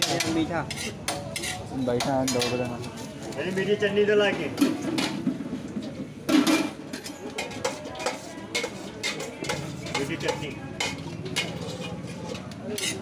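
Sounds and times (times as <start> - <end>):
metal utensils clinking on bowls: 0.0 - 13.0.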